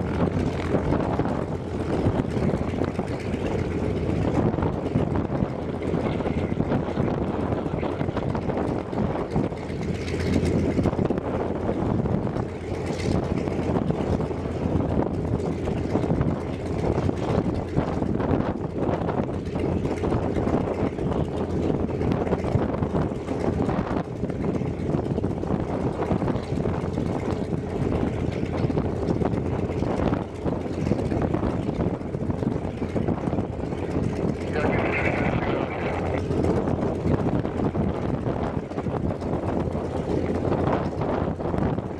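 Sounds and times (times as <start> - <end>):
propeller plane engine idling: 0.0 - 41.9.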